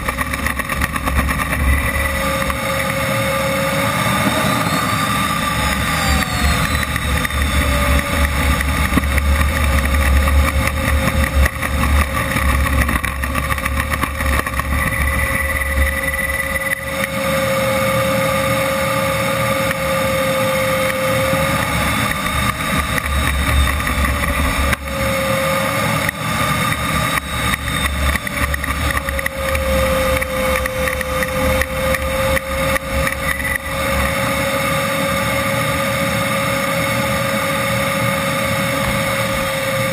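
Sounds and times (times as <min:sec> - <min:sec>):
model jet turbine whine: 0:00.0 - 0:39.9.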